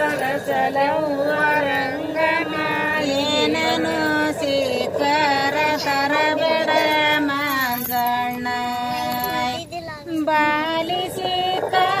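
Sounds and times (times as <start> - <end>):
women singing a folk song: 0.0 - 12.0.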